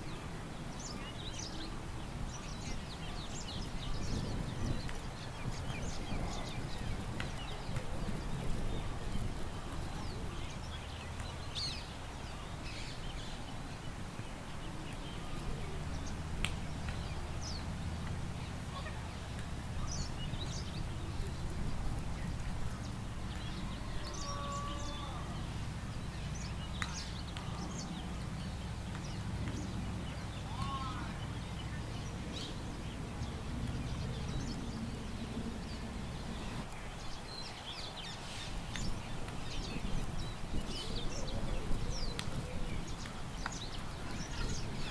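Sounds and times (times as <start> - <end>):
low wind rumble: 0.0 - 44.9.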